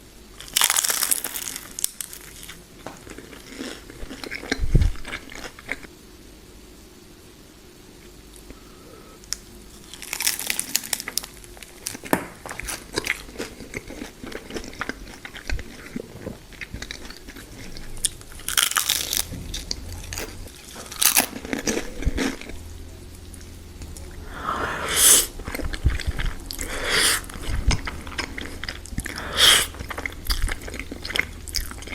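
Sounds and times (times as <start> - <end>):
crunching and chewing fried food: 0.4 - 5.9, 9.3 - 31.9.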